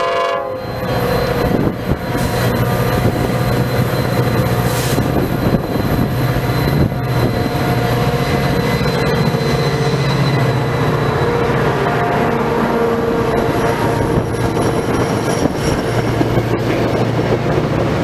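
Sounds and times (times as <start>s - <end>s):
diesel locomotive engine hum: 0.0s - 18.0s
train wheels on rails: 0.0s - 18.0s.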